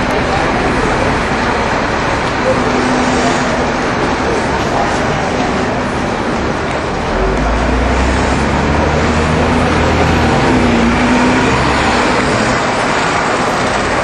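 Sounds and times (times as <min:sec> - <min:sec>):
heavy low rumble: 0:00.0 - 0:13.8
cars and buses passing: 0:00.0 - 0:14.0.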